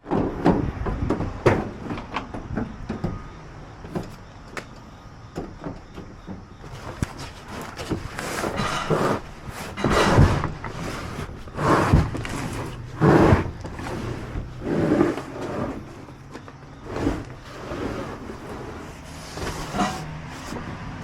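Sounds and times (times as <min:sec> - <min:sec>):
cargo boxes knocking and thumping: 0:00.0 - 0:20.7.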